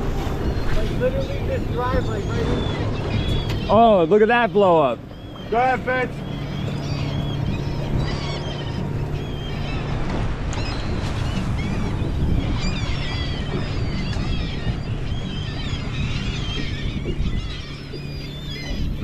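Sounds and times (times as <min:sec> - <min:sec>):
boat engine humming: 0:00.0 - 0:19.0
seabirds calling: 0:00.0 - 0:19.0
wind and water: 0:00.0 - 0:19.0.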